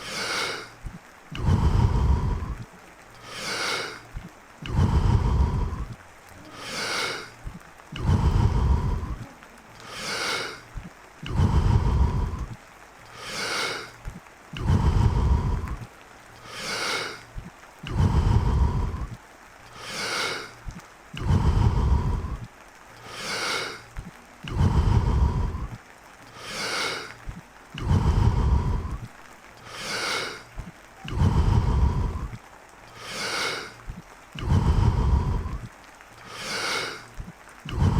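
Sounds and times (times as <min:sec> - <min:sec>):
deep forceful breathing: 0:00.0 - 0:37.9.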